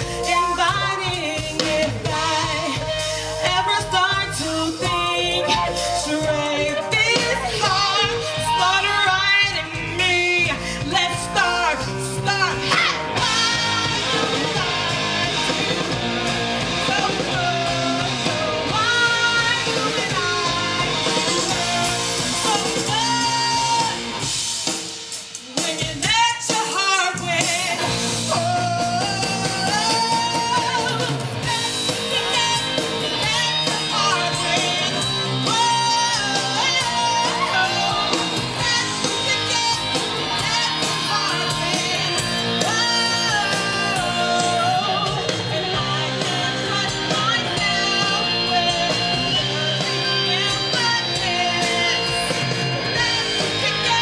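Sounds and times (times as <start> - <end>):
person singing: 0.0 - 24.2, 25.3 - 54.0
drums: 0.0 - 54.0
electric guitar: 0.0 - 54.0
keyboard: 0.0 - 54.0.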